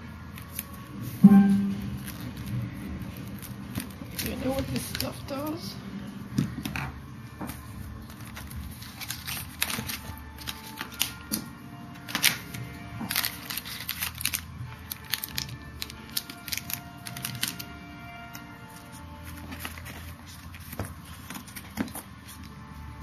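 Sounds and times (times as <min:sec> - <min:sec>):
faint background music: 0:00.0 - 0:23.0
cardboard and plastic rustling: 0:01.8 - 0:05.7, 0:06.4 - 0:22.7.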